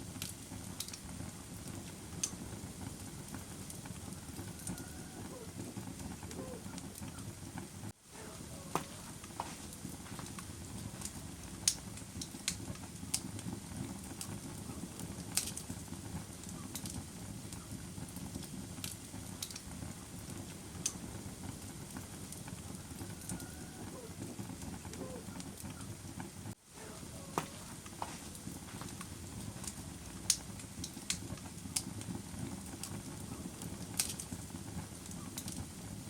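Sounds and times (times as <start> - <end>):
bonfire low rumble: 0.0 - 36.0
wood crackling and popping: 0.0 - 36.0.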